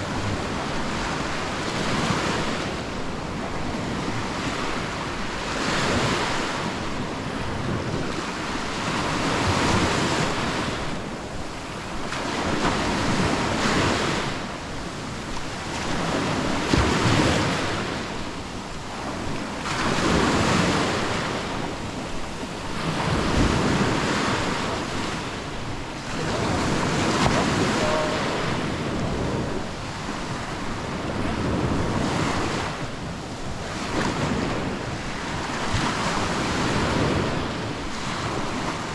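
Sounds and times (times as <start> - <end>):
small waves breaking on beach: 0.0 - 38.9
wind buffeting microphone: 0.0 - 38.9.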